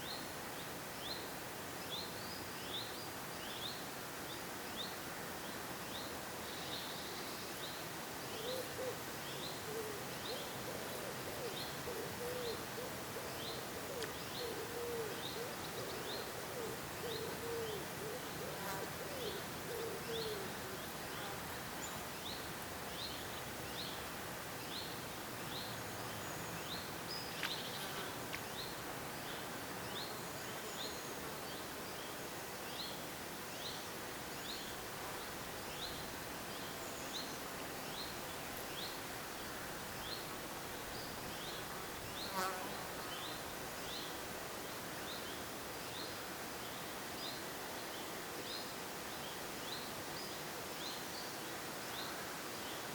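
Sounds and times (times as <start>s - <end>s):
background hiss: 0.0s - 52.9s.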